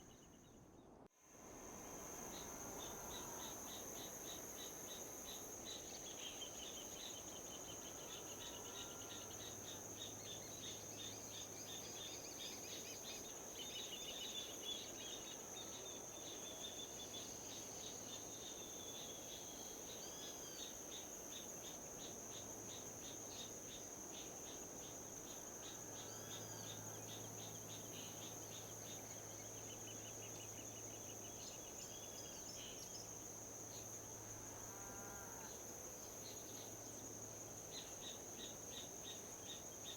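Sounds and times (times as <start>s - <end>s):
insects chirping: 1.4s - 39.9s.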